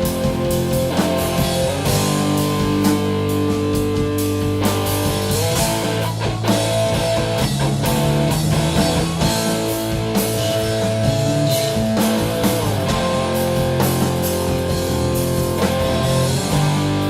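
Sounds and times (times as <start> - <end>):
drum kit: 0.0 - 17.0.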